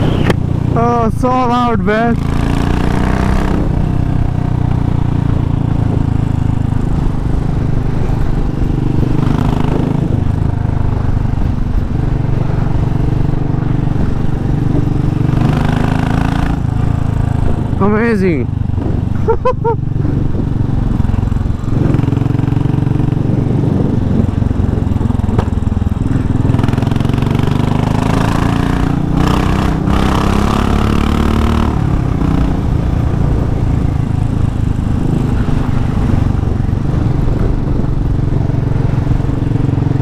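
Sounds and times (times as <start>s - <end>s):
motorcycle engine running loudly: 0.0s - 40.0s.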